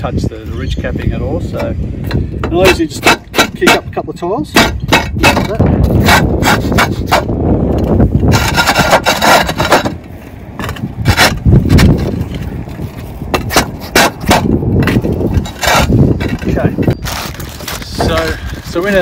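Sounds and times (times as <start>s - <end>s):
roof tiles knocking and scraping: 1.5s - 19.0s.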